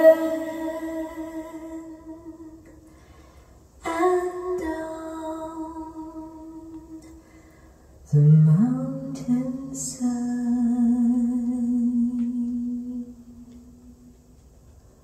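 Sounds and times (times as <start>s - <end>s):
woman singing slow ballad: 0.0s - 2.9s, 3.8s - 7.3s, 8.0s - 13.9s.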